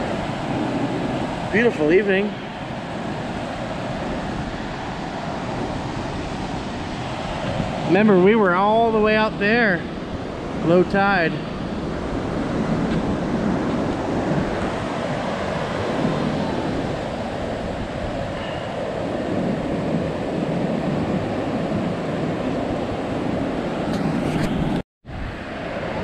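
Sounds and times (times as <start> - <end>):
surf washing up a beach: 0.0 - 26.0
wind buffeting microphone: 0.0 - 26.0.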